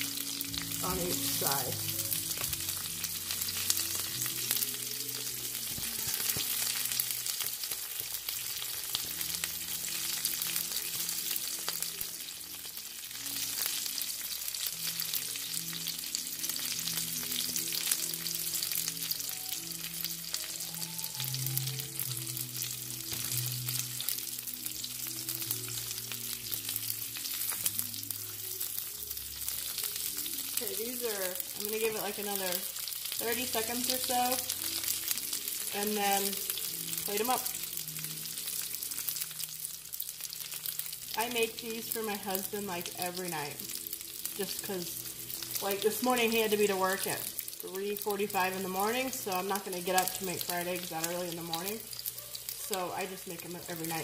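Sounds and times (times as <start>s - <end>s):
eggs sizzling in frying pan: 0.0s - 54.0s.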